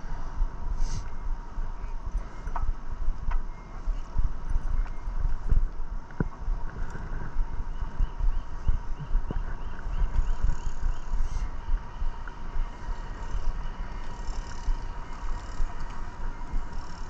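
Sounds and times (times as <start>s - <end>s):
faint steady whine: 0.0s - 17.0s
wind buffeting microphone: 0.0s - 17.0s.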